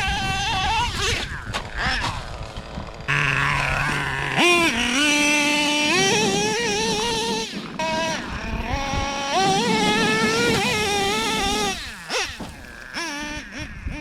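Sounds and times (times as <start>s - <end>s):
small engine buzzing at high revs: 0.0s - 14.0s.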